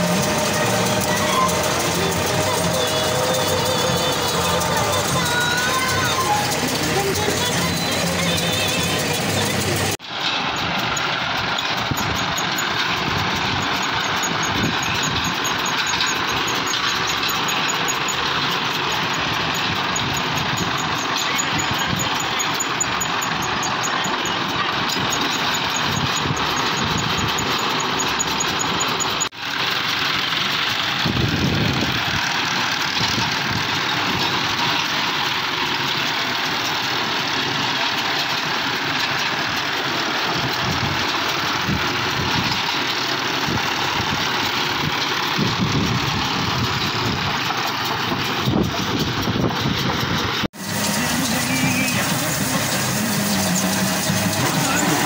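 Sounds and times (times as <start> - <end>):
baler pickup and chains working: 0.0 - 55.0
tractor engine running: 0.0 - 55.0.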